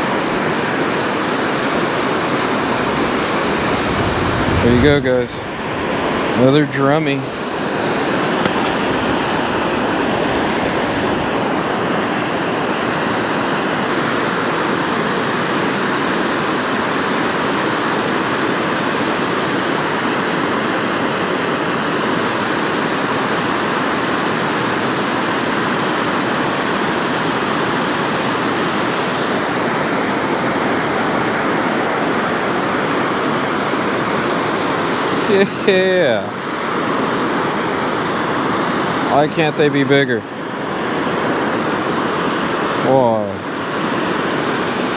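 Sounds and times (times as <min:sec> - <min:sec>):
water rushing through spillway: 0:00.0 - 0:44.9.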